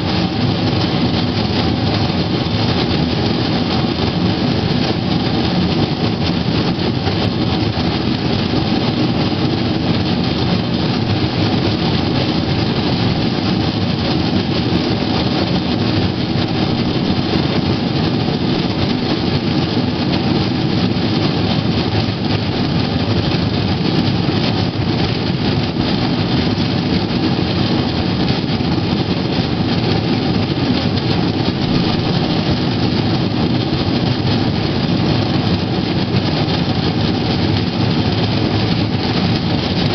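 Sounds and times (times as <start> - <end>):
wheels rumbling on railway track: 0.0 - 39.9.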